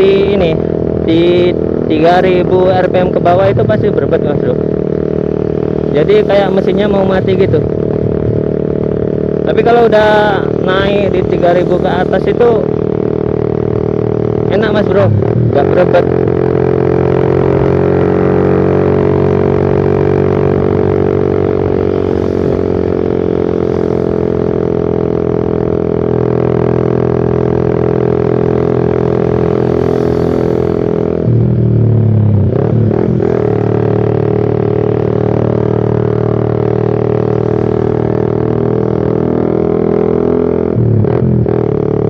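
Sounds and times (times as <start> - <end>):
motorcycle exhaust droning: 0.0 - 42.0.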